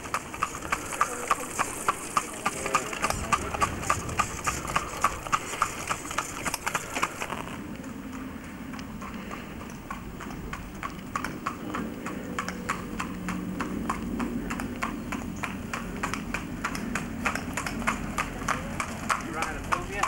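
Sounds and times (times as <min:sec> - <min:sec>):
low steady rumble: 0:00.0 - 0:19.7
hooves clip-clopping on tarmac: 0:00.0 - 0:20.0.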